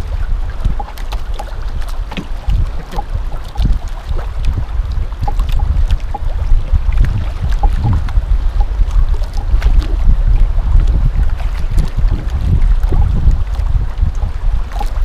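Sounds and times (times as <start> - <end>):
water lapping at boat hull: 0.0 - 15.0
wind blowing on microphone: 0.0 - 15.0.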